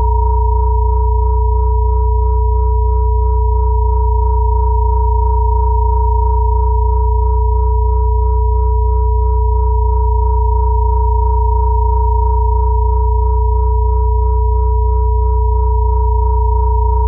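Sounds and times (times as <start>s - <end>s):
layered sine tone drone: 0.0s - 17.0s.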